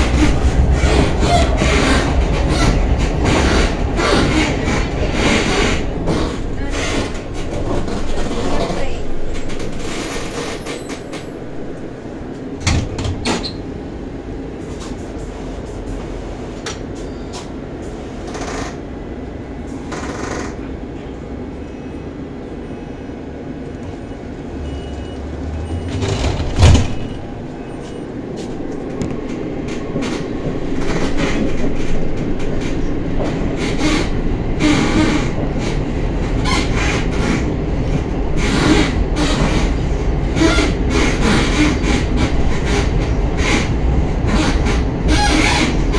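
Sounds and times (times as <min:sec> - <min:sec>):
tram rumbling: 0:00.0 - 0:45.9.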